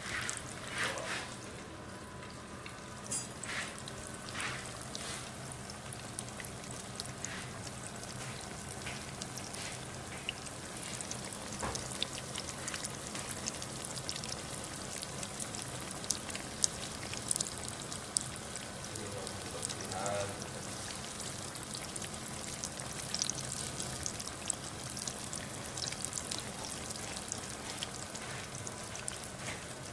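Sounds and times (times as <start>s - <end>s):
frying in hot oil with pops: 0.0s - 29.9s.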